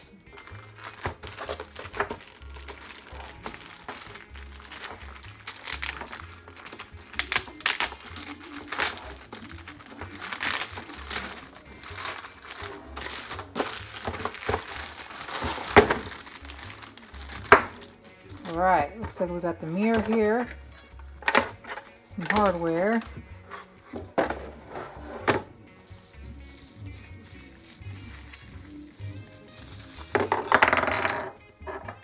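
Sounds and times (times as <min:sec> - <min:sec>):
packaging crinkling and rustling: 0:00.0 - 0:31.8
low background music bass: 0:00.0 - 0:32.0.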